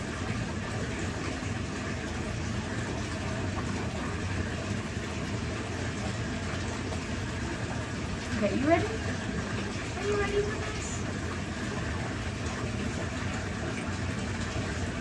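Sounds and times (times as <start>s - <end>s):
tap water running: 0.0s - 15.0s.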